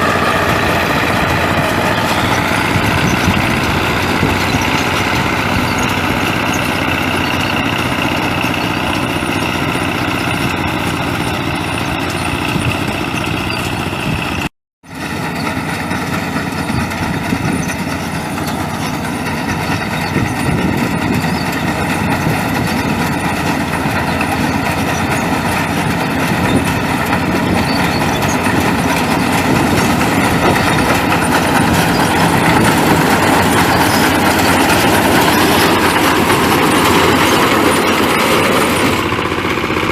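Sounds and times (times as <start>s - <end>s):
harvester engine running: 0.0s - 39.9s
machinery clatter: 0.0s - 39.9s.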